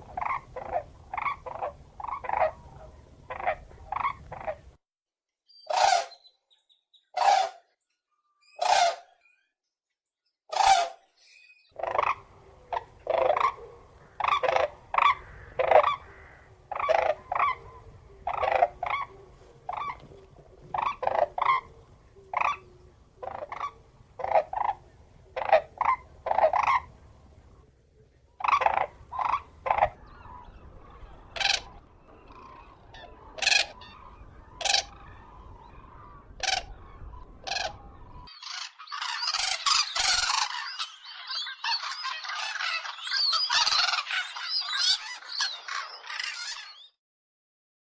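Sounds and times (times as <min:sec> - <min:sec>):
crane calling: 0:00.0 - 0:04.7, 0:11.7 - 0:27.0, 0:28.4 - 0:46.9.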